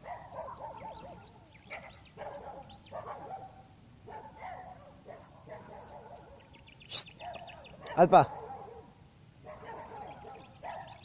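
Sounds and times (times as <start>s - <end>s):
dog barking: 0.0s - 6.5s, 7.2s - 11.0s.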